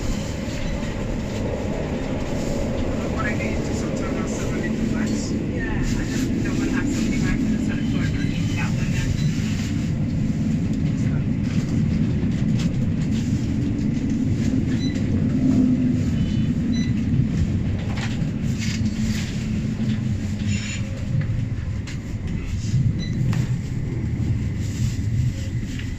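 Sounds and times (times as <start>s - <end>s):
tram rumbling on rails: 0.0s - 25.9s.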